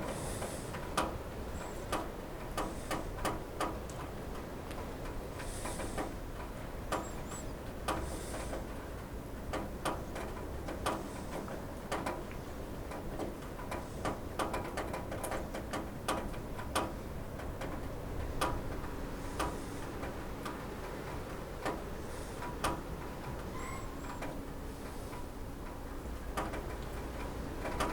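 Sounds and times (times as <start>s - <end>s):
rain drops ticking on a roof: 0.0s - 27.9s.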